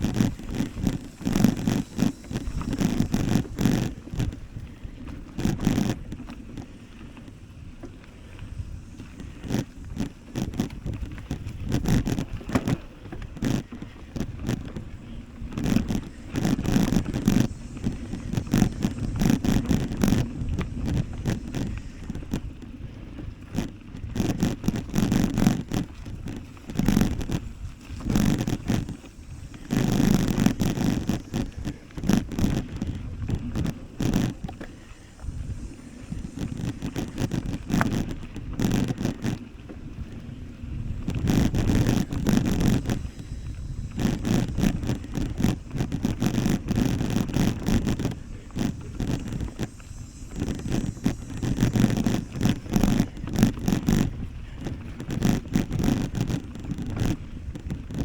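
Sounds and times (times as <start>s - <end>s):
bike rattling clicks and scrapes: 0.0s - 58.0s
wind buffeting microphone: 0.0s - 58.0s.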